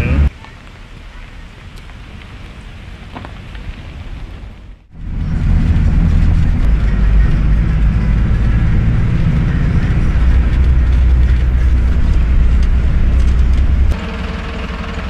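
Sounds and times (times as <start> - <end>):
vehicle interior rumble: 0.0 - 15.0.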